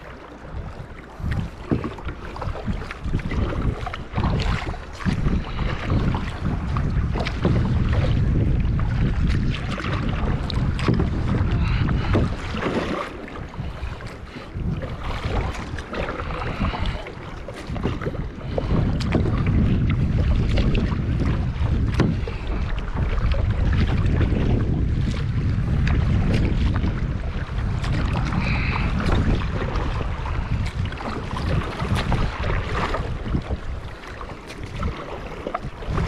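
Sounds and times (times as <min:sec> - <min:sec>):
gusting wind rumble: 0:00.0 - 0:36.0
kayak paddle splashing in water: 0:00.0 - 0:36.0.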